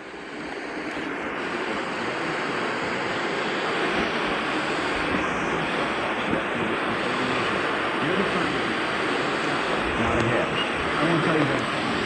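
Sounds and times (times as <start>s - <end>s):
am radio static hiss: 0.0s - 12.0s.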